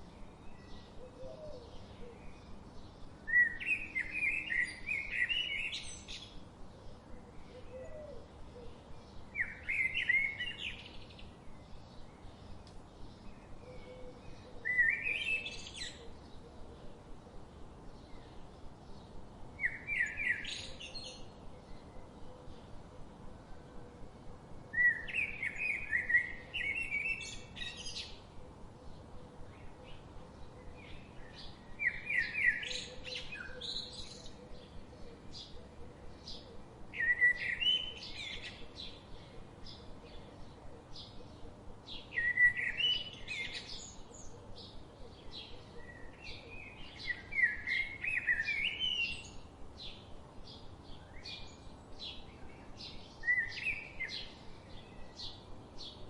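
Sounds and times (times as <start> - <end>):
faint bird chirps: 0.0 - 56.0
soft background hiss: 0.0 - 56.0.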